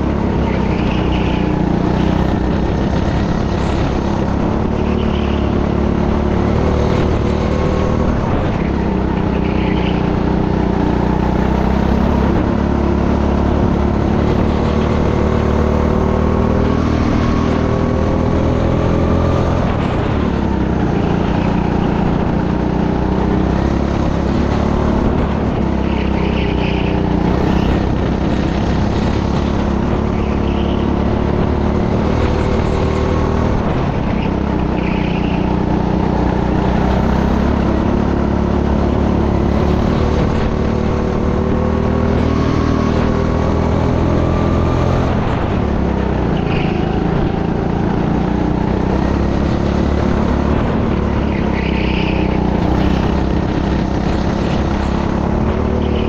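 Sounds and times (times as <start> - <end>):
kart engine running hard: 0.0 - 56.0
wind and road noise: 0.0 - 56.0.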